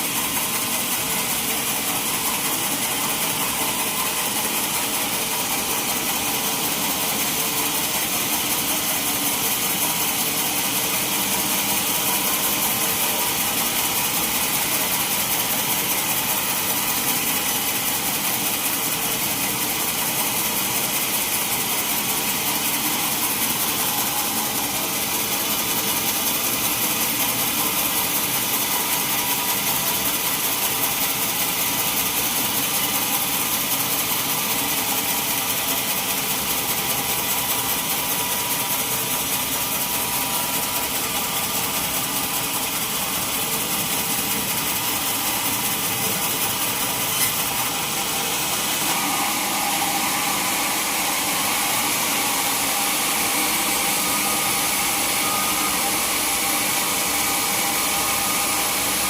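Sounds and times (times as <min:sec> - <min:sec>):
sawmill saw whining: 0:00.0 - 0:59.0.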